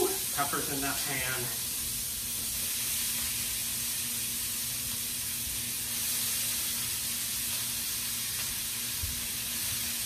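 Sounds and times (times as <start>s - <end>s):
onions and peppers sizzling in oil: 0.0s - 10.0s.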